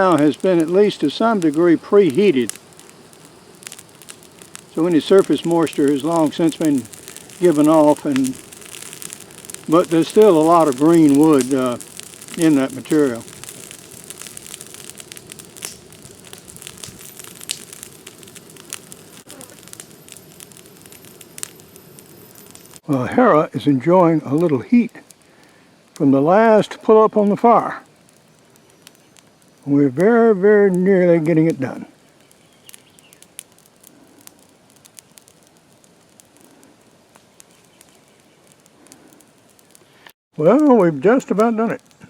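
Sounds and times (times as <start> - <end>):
brush fire crackling: 0.0 - 42.0
fire hissing: 0.0 - 42.0
fire popping and snapping: 0.0 - 42.0.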